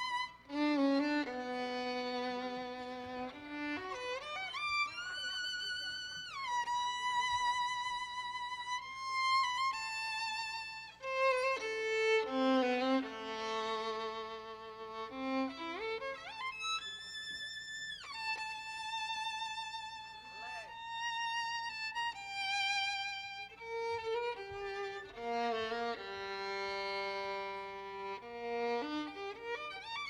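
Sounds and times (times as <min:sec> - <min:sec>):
solo violin melody: 0:00.0 - 0:30.0.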